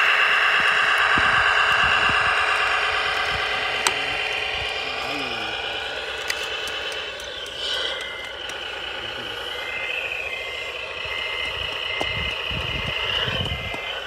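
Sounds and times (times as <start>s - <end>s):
model truck engine whine: 0.0s - 14.0s
reversing beeper: 0.0s - 14.0s.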